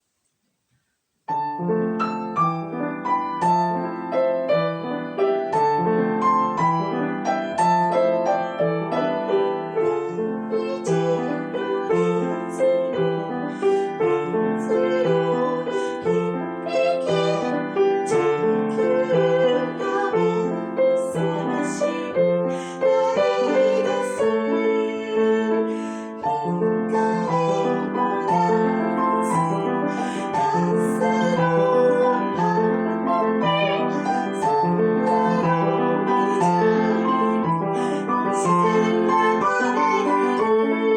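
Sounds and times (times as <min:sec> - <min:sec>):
instrumental piano music: 0:01.3 - 0:40.9.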